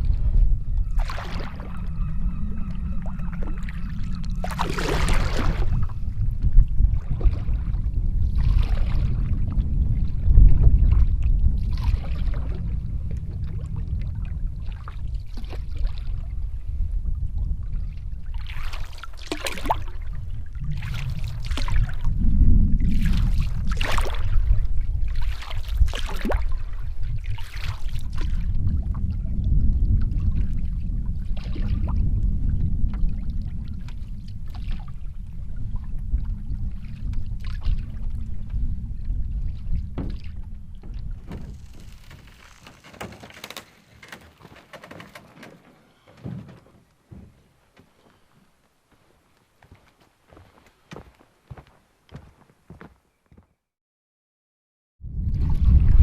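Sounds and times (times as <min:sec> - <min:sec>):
paddle swishing and dripping water: 0:00.0 - 0:22.2, 0:22.8 - 0:49.5
wind rumble on microphone: 0:00.0 - 0:45.6, 0:55.0 - 0:56.0.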